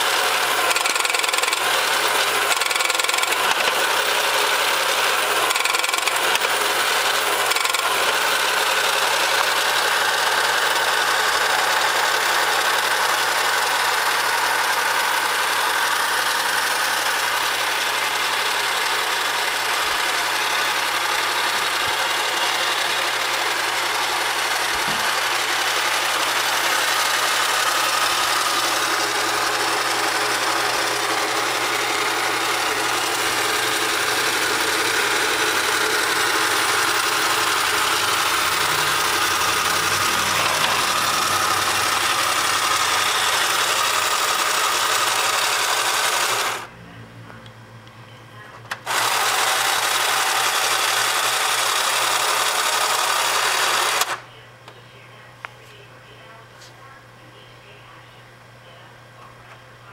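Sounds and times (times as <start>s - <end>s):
toy electric motor whirring: 0.0s - 46.7s, 48.7s - 54.2s.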